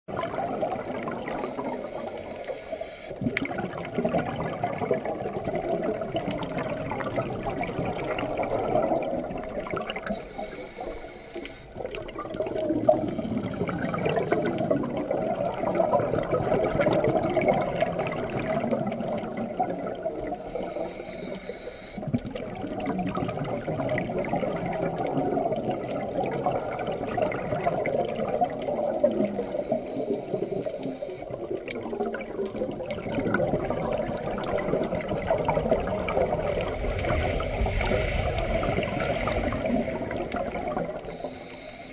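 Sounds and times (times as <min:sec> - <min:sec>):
scuba regulator exhaust bubbles: 0:00.1 - 0:41.9.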